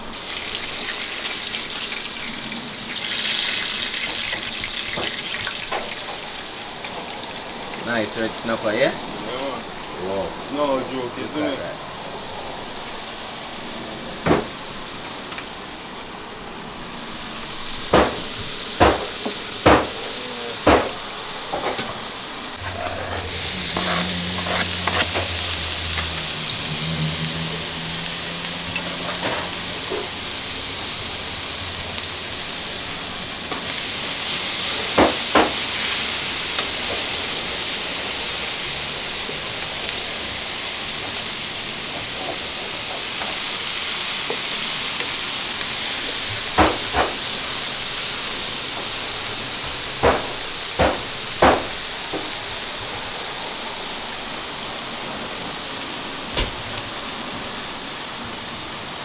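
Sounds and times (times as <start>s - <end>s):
vegetables sizzling in hot oil: 0.0s - 13.7s, 17.1s - 59.0s.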